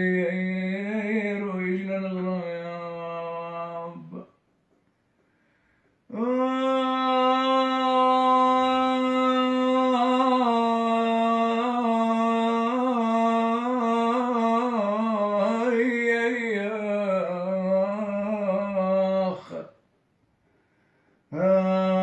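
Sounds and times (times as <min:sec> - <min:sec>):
man singing wordless note: 0:00.0 - 0:04.4, 0:06.1 - 0:19.8, 0:21.3 - 0:22.0.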